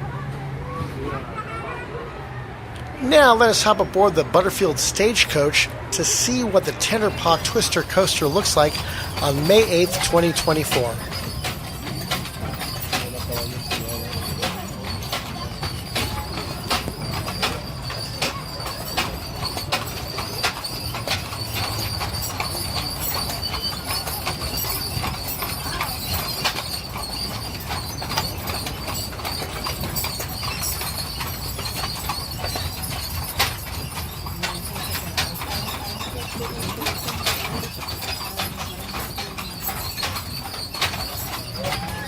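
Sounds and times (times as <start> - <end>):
coach rolling rumble: 2.1 - 42.0
hooves clip-clopping: 3.2 - 42.0.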